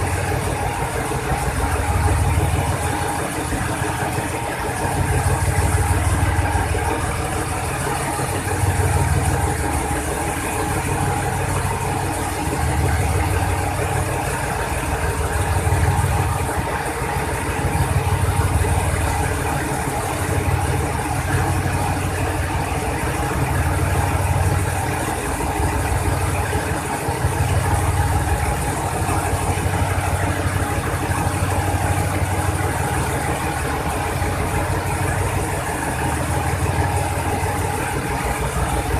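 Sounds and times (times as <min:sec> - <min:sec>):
diesel train engine idling: 0:00.0 - 0:38.9.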